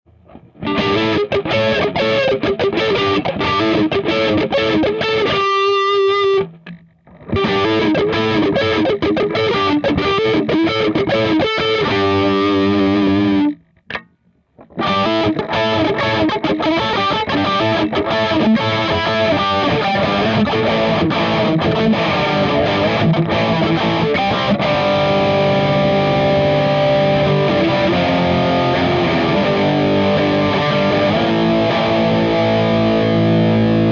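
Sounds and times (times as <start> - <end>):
distorted electric guitar: 0.1 - 33.9.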